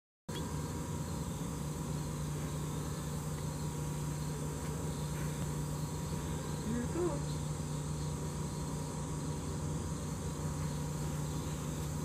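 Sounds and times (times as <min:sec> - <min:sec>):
constant low drone: 0:00.3 - 0:12.0
insects chirring: 0:00.3 - 0:12.0.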